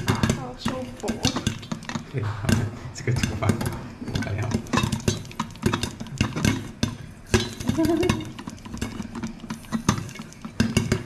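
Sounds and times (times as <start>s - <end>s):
corn rattling in shaken pan: 0.0s - 11.0s
popcorn popping in a saucepan: 0.0s - 11.0s.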